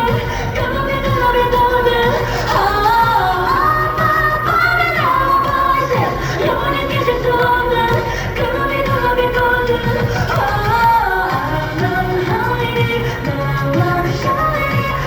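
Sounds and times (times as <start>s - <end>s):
pop backing track: 0.0s - 15.0s
woman singing pop song: 0.0s - 15.0s.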